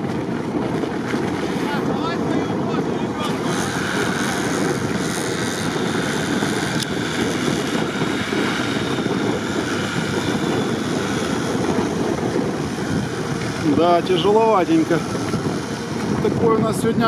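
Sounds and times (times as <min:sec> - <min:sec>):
wind buffeting microphone: 0:00.0 - 0:17.0
off-road vehicle engine labouring: 0:03.1 - 0:17.0.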